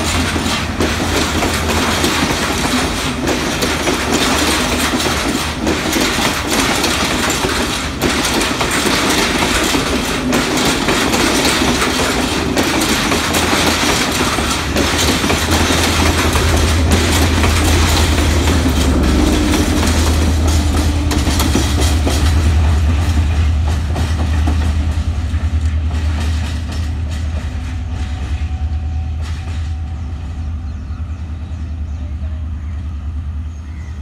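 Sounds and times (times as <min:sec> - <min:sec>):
wheels clicking over rail joints: 0:00.0 - 0:28.4
passenger train rumbling past: 0:00.0 - 0:34.0.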